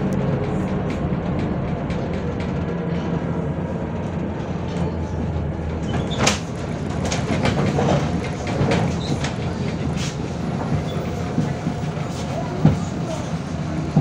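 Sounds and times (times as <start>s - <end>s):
bus body rattling and clicking: 0.0s - 14.0s
bus engine drone: 0.0s - 14.0s.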